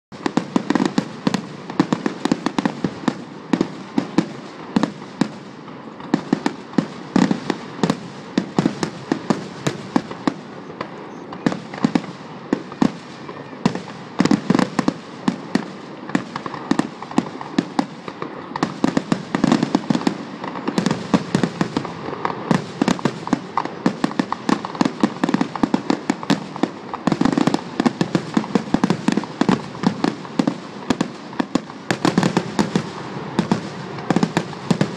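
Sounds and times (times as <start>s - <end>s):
fireworks bangs and crackles: 0.1s - 34.9s.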